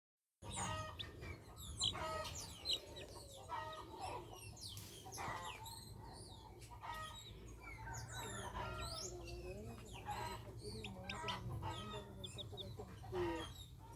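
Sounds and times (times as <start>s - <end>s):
chickens clucking: 0.4s - 13.9s.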